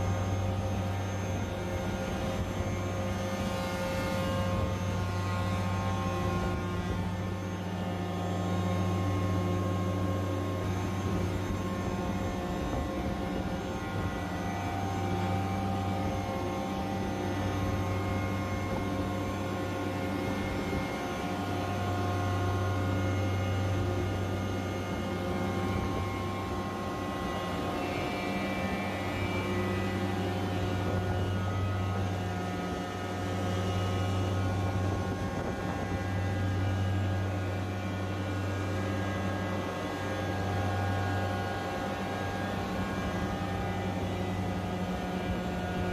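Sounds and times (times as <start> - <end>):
chiller deep hum: 0.0 - 45.9
fine whining tones: 0.0 - 45.9.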